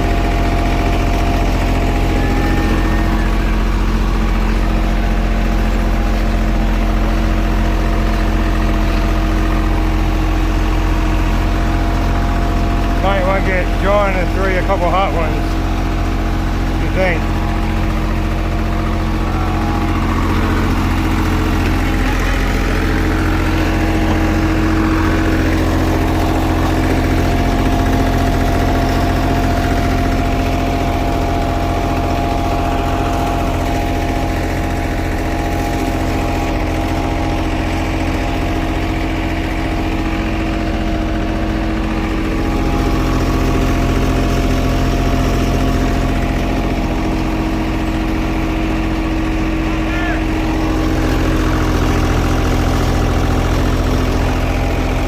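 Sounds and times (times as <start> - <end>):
paving machine engine humming: 0.0 - 55.0.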